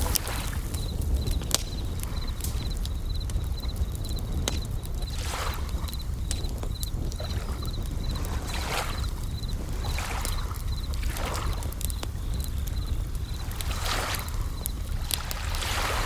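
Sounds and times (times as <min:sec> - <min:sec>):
waves washing: 0:00.0 - 0:11.8, 0:12.7 - 0:16.0
bell crickets chirping: 0:00.0 - 0:15.0
campfire crackling: 0:00.0 - 0:16.0.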